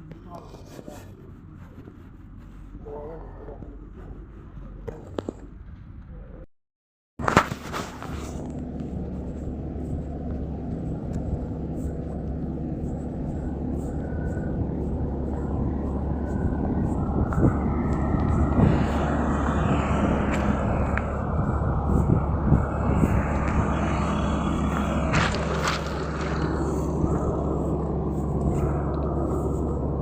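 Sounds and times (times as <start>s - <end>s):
heavy engine rumbling: 0.0s - 6.5s, 7.2s - 30.0s.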